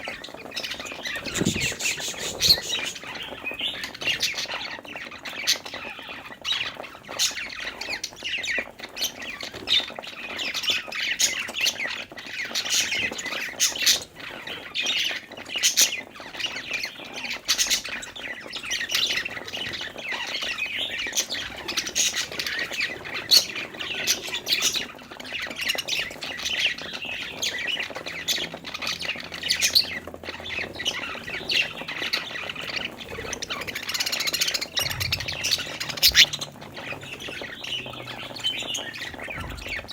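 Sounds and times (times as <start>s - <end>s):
budgies chirping and squawking: 0.0s - 39.9s.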